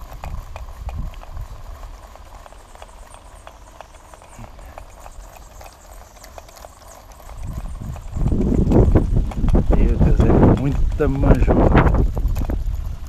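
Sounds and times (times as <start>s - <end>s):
sharp clicks and ticks: 0.0s - 13.0s
wind buffeting microphone: 0.0s - 13.0s.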